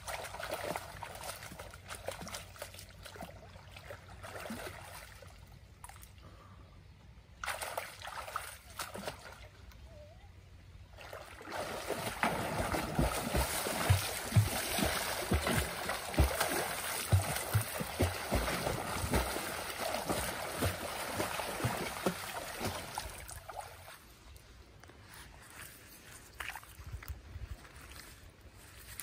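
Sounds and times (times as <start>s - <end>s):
water splashing and sloshing: 0.0s - 6.6s, 7.2s - 9.9s, 10.8s - 29.0s.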